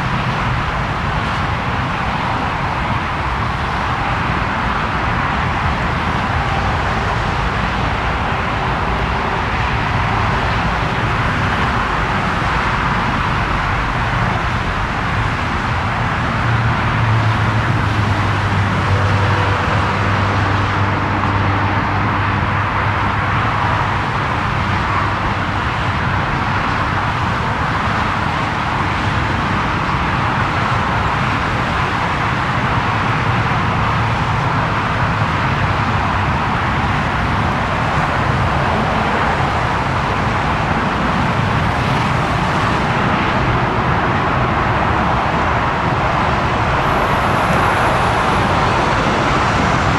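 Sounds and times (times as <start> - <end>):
jet engine noise: 0.0 - 49.9.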